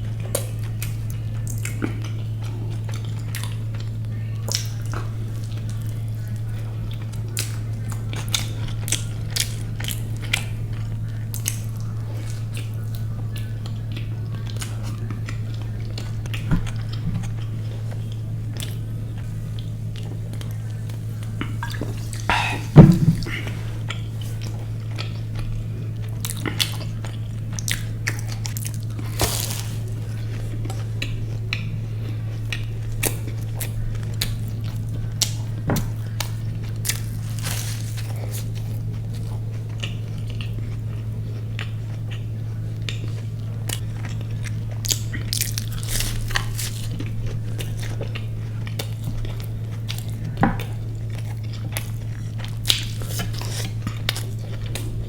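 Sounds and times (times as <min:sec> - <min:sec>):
chewing crunchy food: 0:00.0 - 0:55.0
steady low hum: 0:00.0 - 0:55.0.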